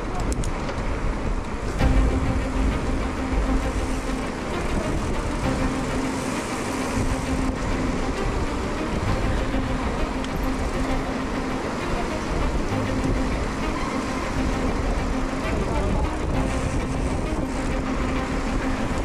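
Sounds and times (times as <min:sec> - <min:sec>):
motor engine running: 0:01.6 - 0:19.0.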